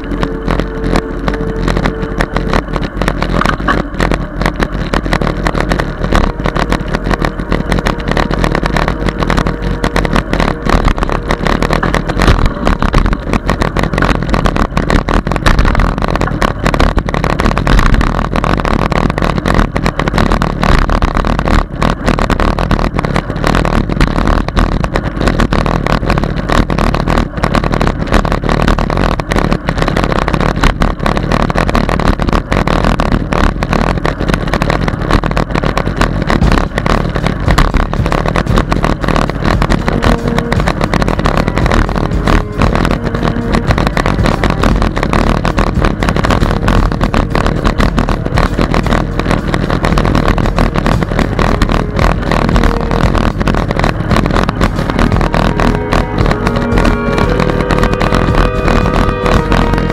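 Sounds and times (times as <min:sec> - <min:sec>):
camera and bike rattling: 0:00.0 - 0:59.9
wind buffeting microphone: 0:00.0 - 0:59.9.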